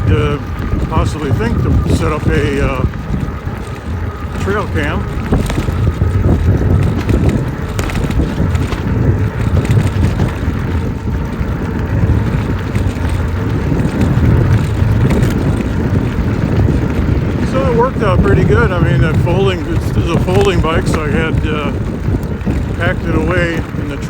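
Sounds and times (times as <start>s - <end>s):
bike tyre noise on trail: 0.0s - 24.0s
wind buffeting microphone: 0.0s - 24.0s.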